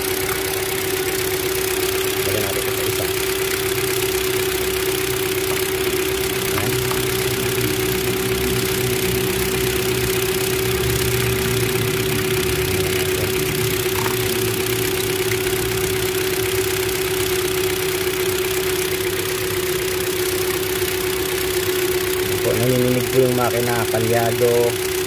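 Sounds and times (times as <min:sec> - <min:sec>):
car engine idling roughly: 0:00.0 - 0:25.0
steady whine: 0:00.0 - 0:25.0.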